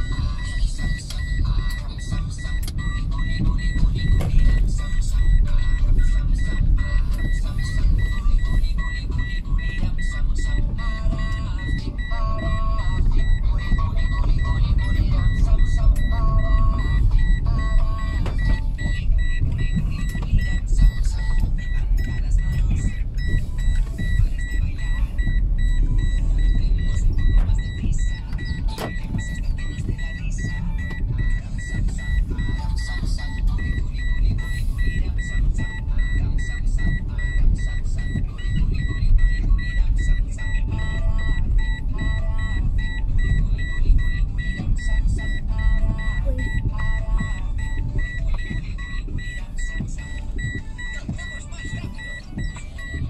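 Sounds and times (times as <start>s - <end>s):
engine and tyres rumbling: 0.0s - 53.0s.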